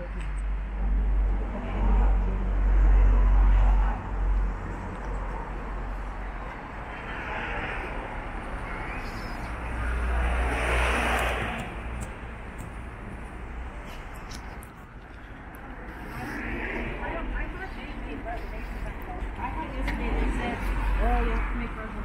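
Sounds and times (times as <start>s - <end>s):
traffic rumble: 0.0s - 22.0s
car passing: 0.4s - 22.0s.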